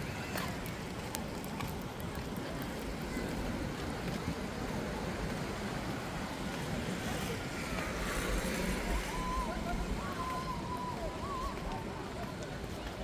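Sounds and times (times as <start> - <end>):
faint voices of people: 0.0 - 13.0
wind and surf: 0.0 - 13.0.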